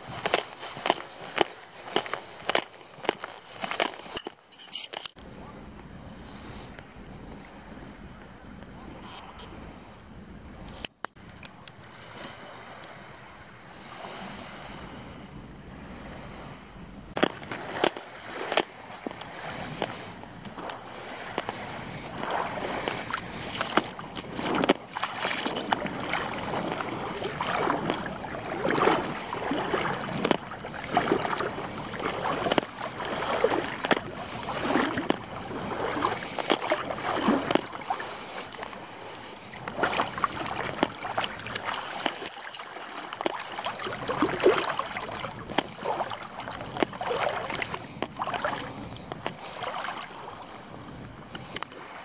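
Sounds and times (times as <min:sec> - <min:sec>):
wading through shallow water: 0:00.0 - 0:52.0.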